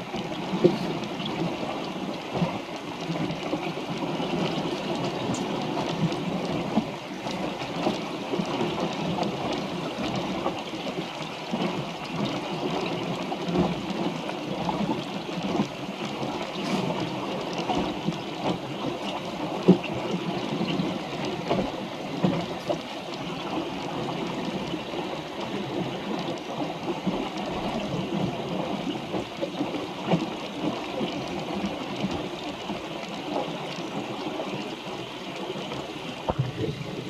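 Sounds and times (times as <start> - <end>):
water rushing along boat hull: 0.0 - 37.0
water slapping hull: 0.0 - 37.0.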